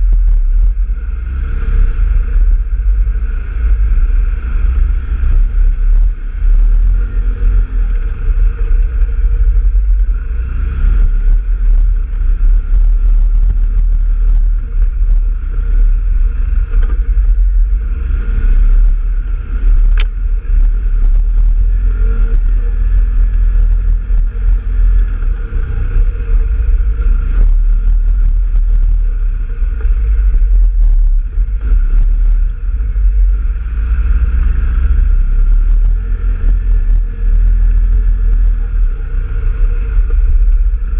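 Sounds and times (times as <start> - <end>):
off-road vehicle engine running: 0.0 - 40.9
wind buffeting microphone: 0.0 - 40.9.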